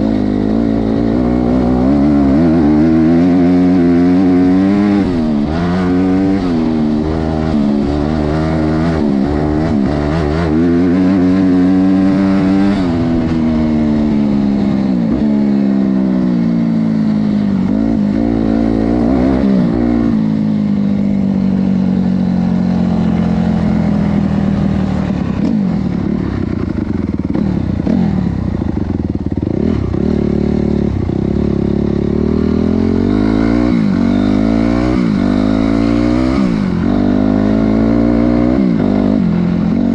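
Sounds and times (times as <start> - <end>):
motocross engine revving: 0.0 - 21.7, 22.3 - 39.9.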